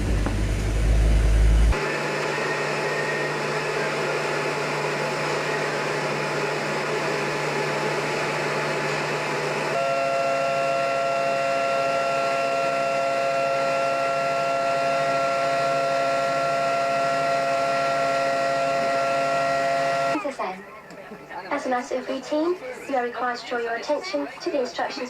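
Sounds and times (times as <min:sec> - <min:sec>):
ferry engines droning: 0:00.0 - 0:25.0.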